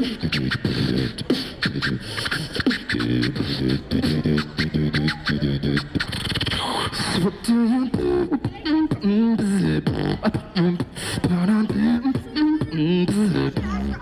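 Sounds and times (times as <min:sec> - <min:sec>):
person beatboxing into a microphone: 0:00.0 - 0:14.0.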